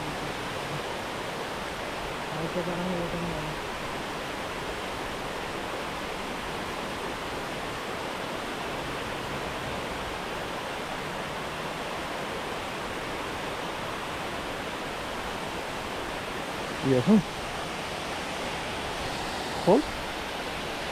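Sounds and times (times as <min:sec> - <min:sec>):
river water rushing: 0:00.0 - 0:20.9.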